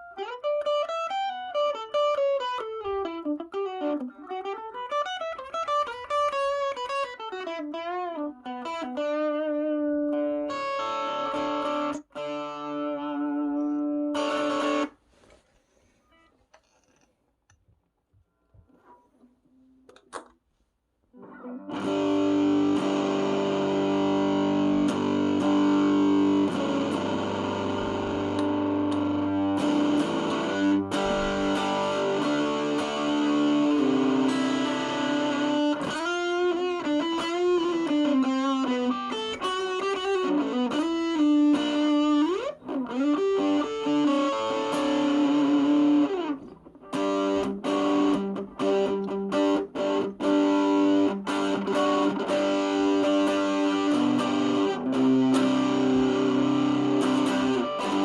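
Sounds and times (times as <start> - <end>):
overdriven electric guitar: 0.0 - 15.0, 21.1 - 58.0.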